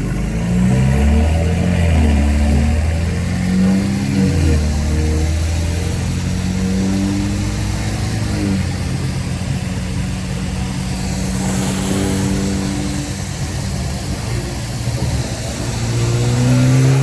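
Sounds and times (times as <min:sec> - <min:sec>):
car engine pulling: 0:00.0 - 0:17.0
tyres hissing on wet road: 0:00.0 - 0:17.0.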